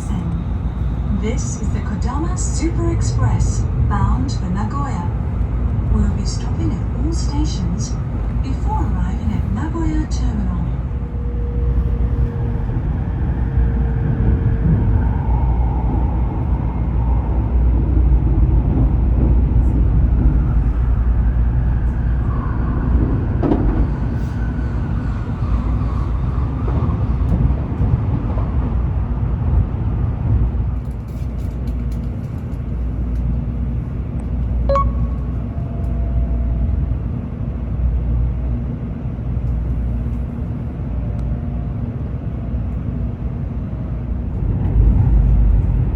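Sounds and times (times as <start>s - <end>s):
train interior rumble: 0.0s - 45.9s.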